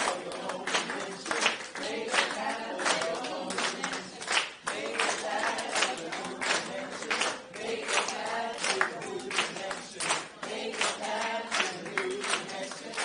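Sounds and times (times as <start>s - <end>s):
group of voices singing: 0.0s - 13.0s
hand claps: 0.0s - 13.0s.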